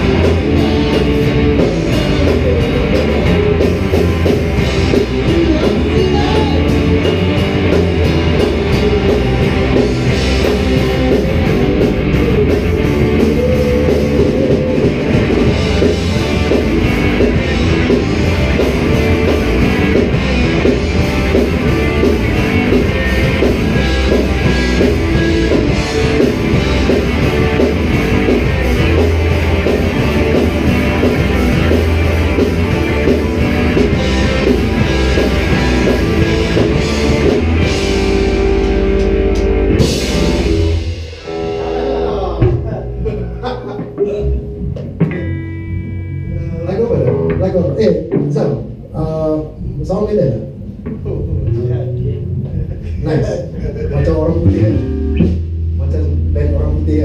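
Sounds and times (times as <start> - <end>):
rock band playing live: 0.0 - 48.9, 49.5 - 57.0.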